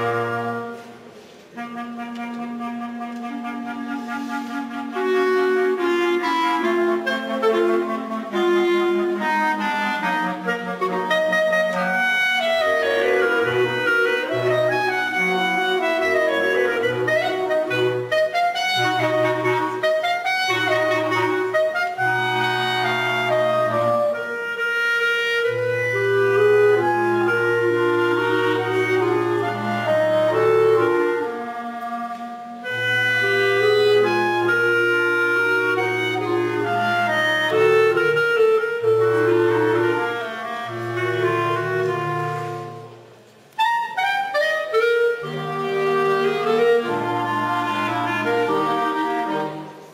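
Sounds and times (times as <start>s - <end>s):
clarinet ensemble playing: 0.0s - 49.9s
low bass clarinet notes: 0.0s - 49.9s.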